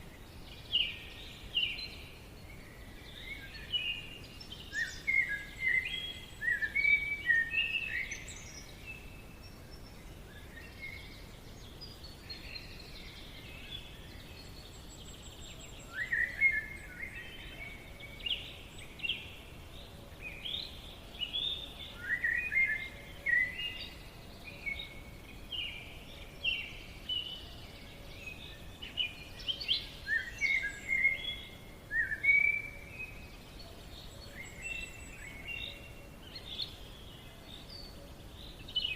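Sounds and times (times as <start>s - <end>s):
faint background hiss: 0.0s - 38.9s
songbirds chirping: 0.0s - 38.9s.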